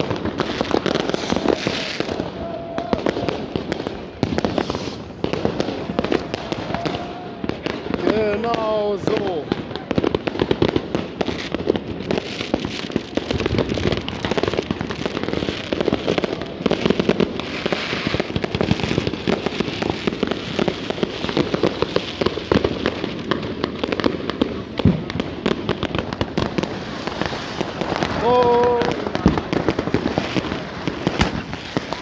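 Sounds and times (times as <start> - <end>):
firecrackers crackling: 0.0 - 32.0.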